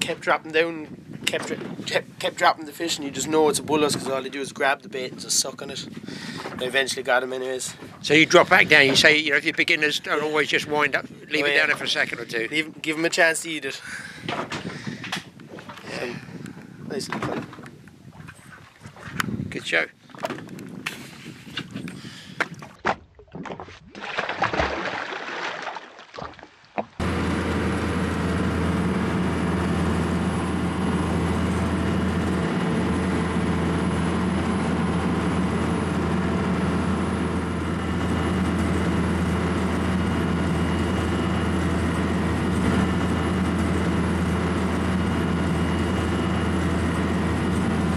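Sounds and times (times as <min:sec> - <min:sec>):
boat engine droning: 0:00.0 - 0:19.2, 0:27.0 - 0:47.9.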